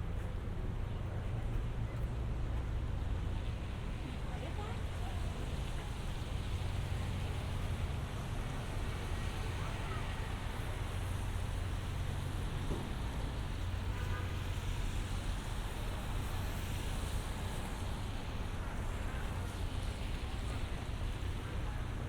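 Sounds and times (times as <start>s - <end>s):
tyres hissing on wet pavement: 3.0s - 22.0s.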